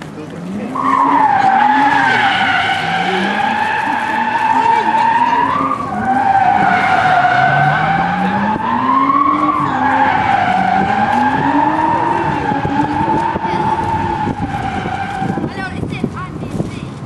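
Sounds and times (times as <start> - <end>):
car engine revving: 0.0 - 15.9
tyres squealing: 0.5 - 15.8.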